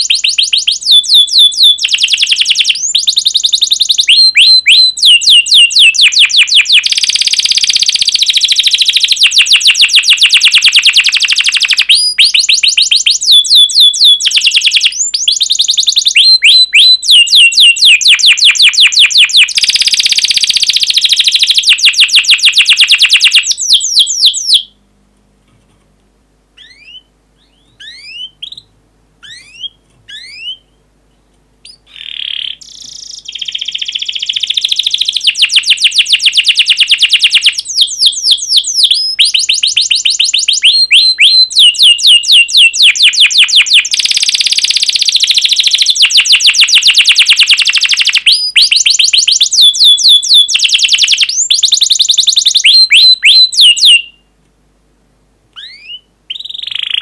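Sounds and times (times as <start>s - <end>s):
canary singing rapid chirps: 0.0s - 24.8s, 26.6s - 30.8s, 31.6s - 54.2s, 55.6s - 57.0s.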